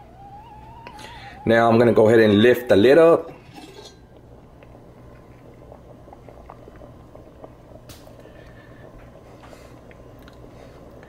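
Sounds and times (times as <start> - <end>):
beans bubbling in a pot: 0.0 - 11.0
steady low hum: 0.0 - 11.0.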